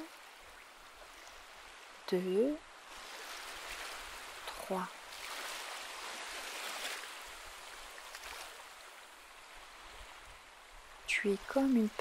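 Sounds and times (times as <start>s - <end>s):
gentle waves washing onto beach: 0.0s - 12.0s.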